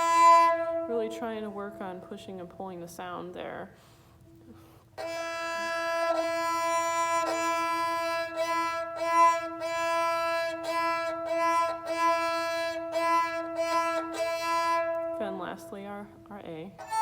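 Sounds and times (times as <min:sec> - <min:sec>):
kamancheh bowed steady note: 0:00.0 - 0:02.8, 0:04.5 - 0:17.0.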